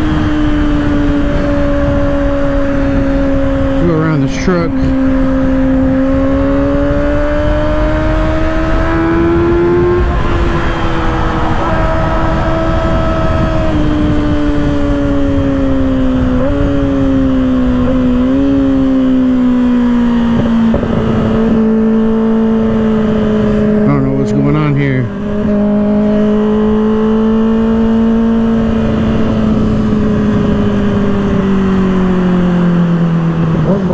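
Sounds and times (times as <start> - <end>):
motorcycle engine accelerating: 0.0 - 33.9
wind rush on microphone: 0.0 - 33.9.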